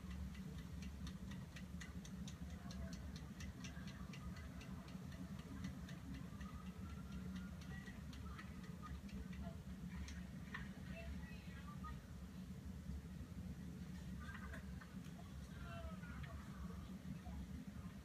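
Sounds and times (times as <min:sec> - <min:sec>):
low steady hum: 0:00.0 - 0:18.0
rapid light ticking: 0:00.0 - 0:18.0.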